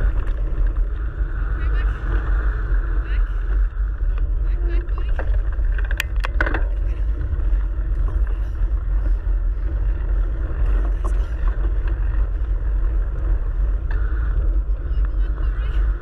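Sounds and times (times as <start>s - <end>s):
bike rolling over gravel trail: 0.0s - 2.5s, 3.5s - 16.0s
wind on microphone: 0.0s - 16.0s.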